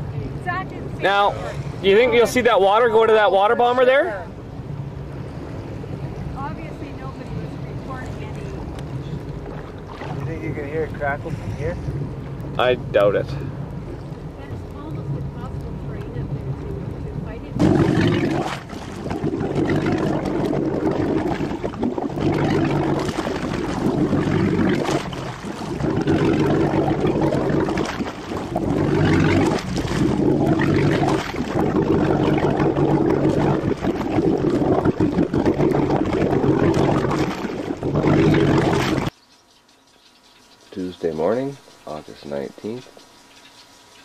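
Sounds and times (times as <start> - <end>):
water sloshing: 0.0 - 12.5, 13.4 - 44.0
boat motor humming: 0.0 - 44.0.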